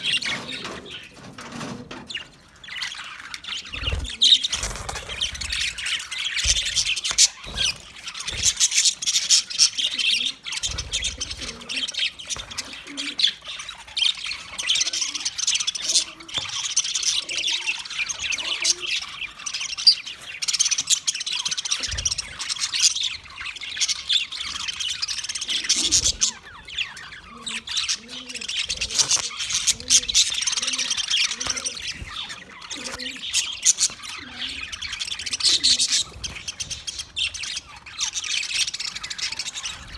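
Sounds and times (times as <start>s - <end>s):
budgerigars chattering: 2.1s - 39.9s.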